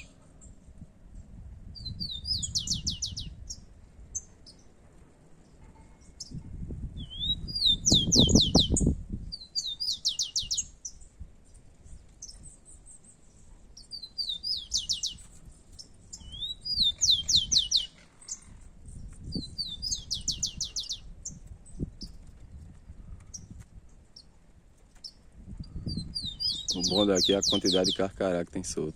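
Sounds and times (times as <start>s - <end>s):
sparrow singing: 0.0s - 4.8s, 5.4s - 28.9s.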